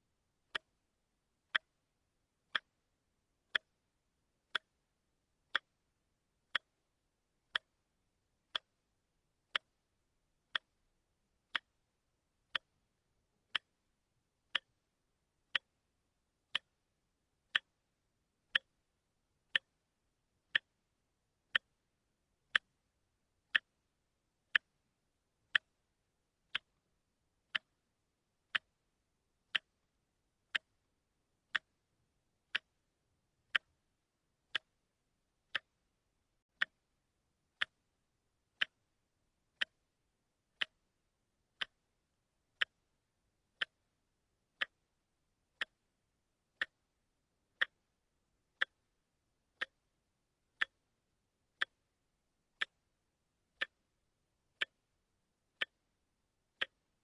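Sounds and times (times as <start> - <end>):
watch ticking: 0.4 - 1.8, 2.4 - 3.8, 4.4 - 8.8, 9.4 - 16.8, 17.4 - 19.8, 20.4 - 20.9, 21.5 - 22.8, 23.4 - 25.9, 26.5 - 26.8, 27.4 - 31.9, 32.5 - 43.0, 43.6 - 44.0, 44.6 - 49.0, 49.6 - 49.9, 50.6 - 52.0, 52.6 - 54.0, 54.6 - 57.0.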